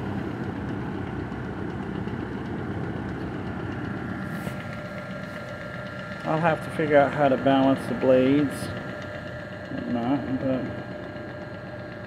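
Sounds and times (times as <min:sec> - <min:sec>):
belt-driven fan humming: 0:00.0 - 0:12.0.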